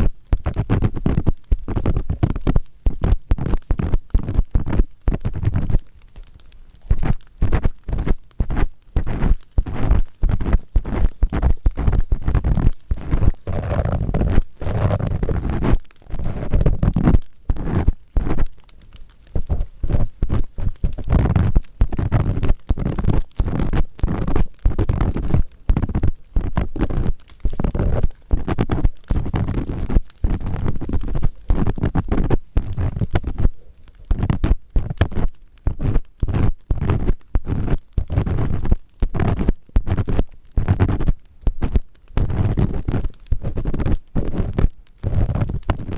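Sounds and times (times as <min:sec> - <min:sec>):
ear pick scratching microphone: 0:00.0 - 0:06.2, 0:06.8 - 0:45.9.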